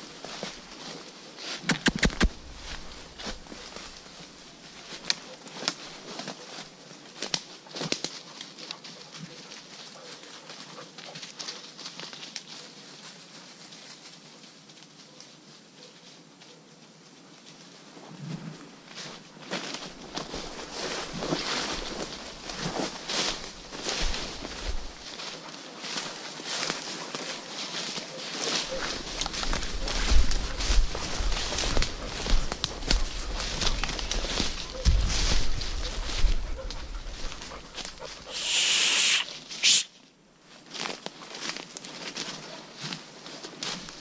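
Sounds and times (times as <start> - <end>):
footsteps crunching through dry leaves: 0.0 - 14.6, 18.9 - 44.0
rustling through undergrowth: 0.0 - 44.0.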